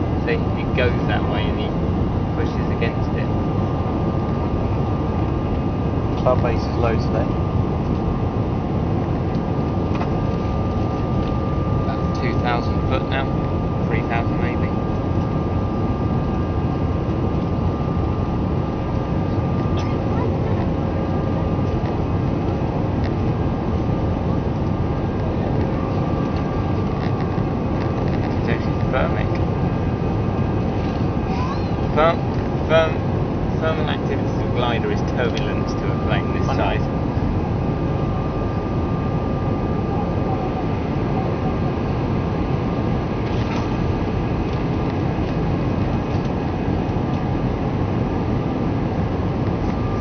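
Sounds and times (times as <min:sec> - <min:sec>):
airflow rush in aircraft cabin: 0:00.0 - 0:50.0
faint steady whining tones: 0:00.0 - 0:50.0
jet engines at climb power: 0:00.0 - 0:50.0.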